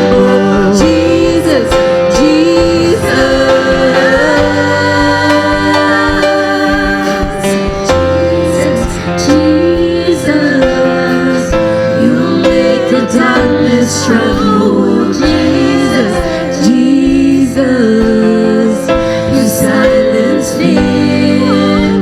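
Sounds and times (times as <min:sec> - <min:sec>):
sustained keyboard accompaniment: 0:00.0 - 0:22.0
woman singing: 0:00.0 - 0:22.0.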